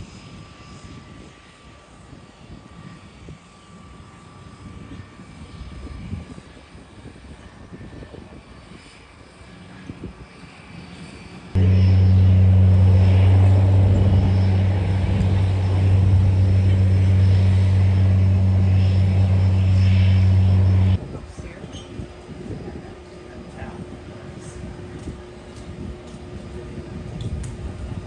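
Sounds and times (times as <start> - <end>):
propeller engine drone: 0.0 - 28.0.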